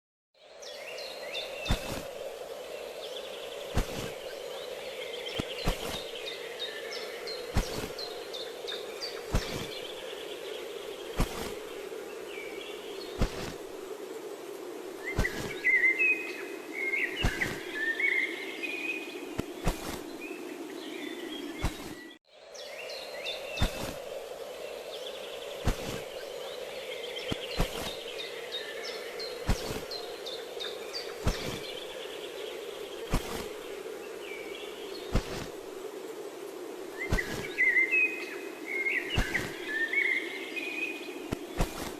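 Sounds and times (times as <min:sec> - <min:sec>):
wild birds chirping: 0:00.4 - 0:41.9.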